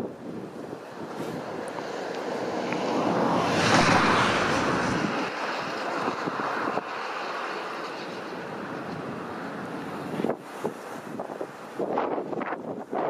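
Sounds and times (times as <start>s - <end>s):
rushing outdoor hiss: 0.0s - 13.0s.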